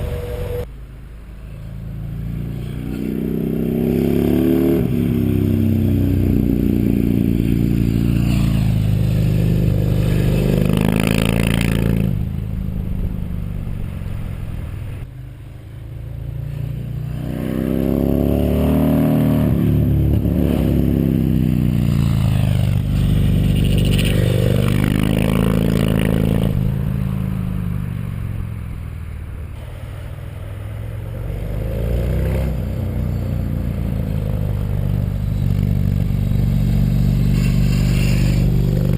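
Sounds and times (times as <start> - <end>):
motorcycle engine revving: 1.8 - 15.1, 16.1 - 28.6, 29.6 - 38.9.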